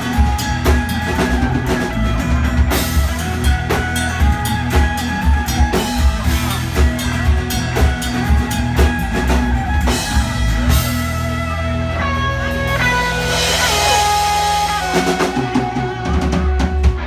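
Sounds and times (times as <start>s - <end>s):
drum-kit beat: 0.0s - 17.0s
guitars and bass playing: 0.0s - 17.0s.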